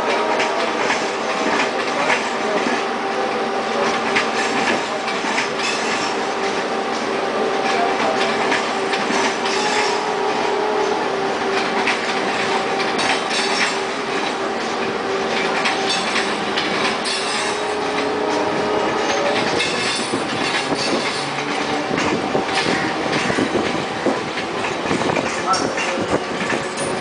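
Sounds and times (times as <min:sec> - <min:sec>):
train wheels clattering over joints: 0:00.0 - 0:27.0.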